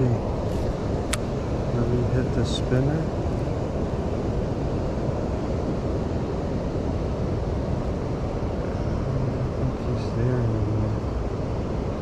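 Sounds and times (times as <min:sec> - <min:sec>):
flowing river water: 0:00.0 - 0:12.0
wind on microphone: 0:00.0 - 0:12.0.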